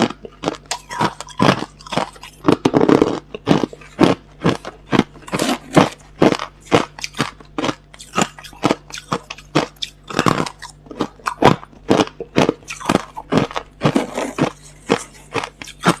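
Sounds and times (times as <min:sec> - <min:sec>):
person chewing crushed ice: 0:00.0 - 0:16.0.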